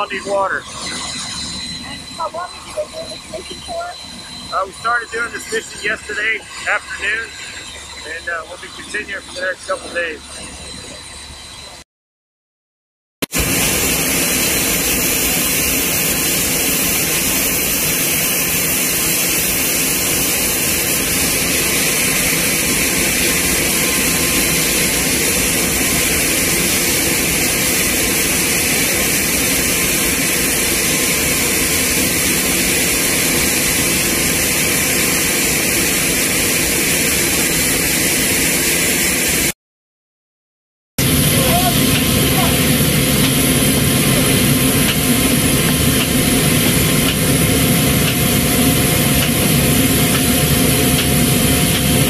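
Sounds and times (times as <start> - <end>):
aircraft turbine whine: 0.0 - 11.8, 13.2 - 39.6, 41.0 - 52.0.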